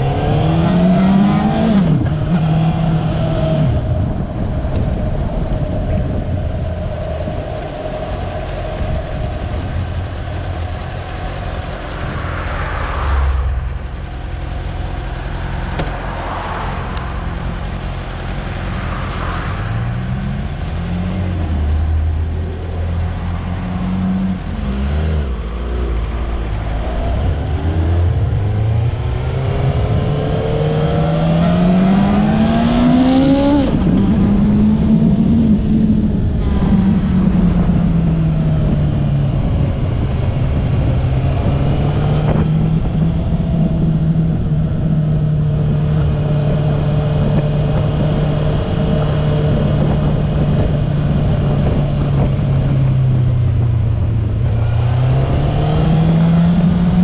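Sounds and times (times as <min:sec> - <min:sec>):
motorcycle engine revving: 0:00.0 - 0:06.3, 0:07.2 - 0:57.0
wind rushing over microphone: 0:00.0 - 0:57.0.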